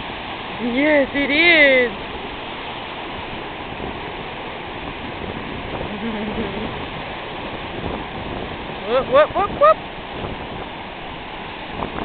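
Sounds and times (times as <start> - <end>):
small waves washing in shallows: 0.0 - 12.0.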